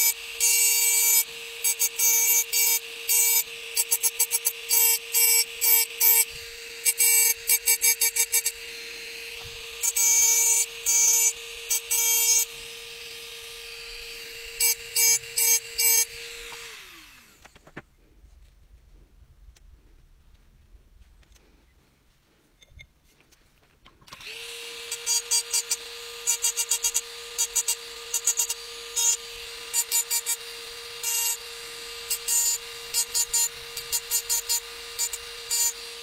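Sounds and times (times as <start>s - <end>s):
rotary tool motor whining: 0.0s - 17.7s, 23.9s - 36.0s.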